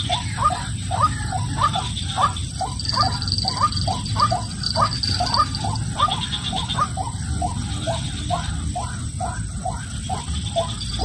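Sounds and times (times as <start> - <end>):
bird calling rising notes: 0.0 - 11.0
low steady hum: 0.0 - 11.0.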